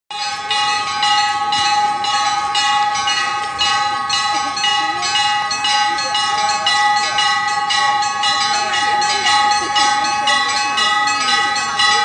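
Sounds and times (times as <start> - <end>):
steady bell tone: 0.1 - 12.0
temple bells struck: 0.1 - 12.0.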